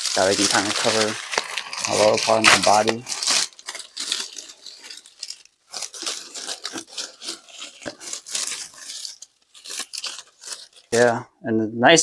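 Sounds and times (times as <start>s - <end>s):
artificial vine rustling: 0.0s - 11.2s.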